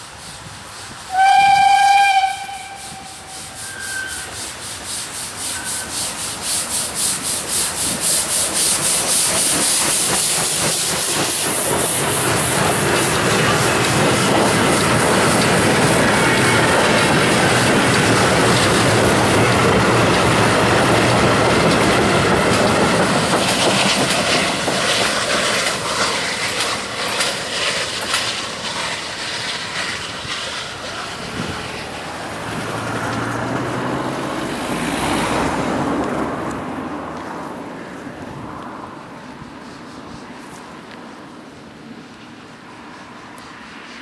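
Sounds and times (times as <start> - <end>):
train wheels clicking over rail joints: 0.0 - 37.4.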